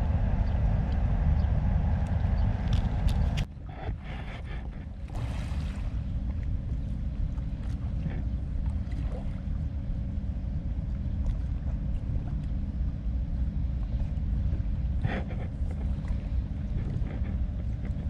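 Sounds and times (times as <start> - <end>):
low rumble of harbour ambience: 0.0 - 18.0
wind on microphone: 0.0 - 18.0.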